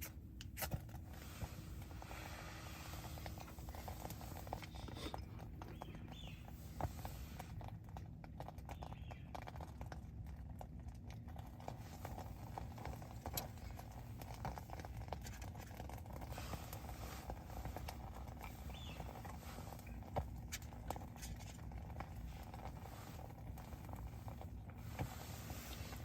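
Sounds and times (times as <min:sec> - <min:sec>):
low steady rumble: 0:00.0 - 0:26.0
campfire crackling: 0:01.1 - 0:26.0.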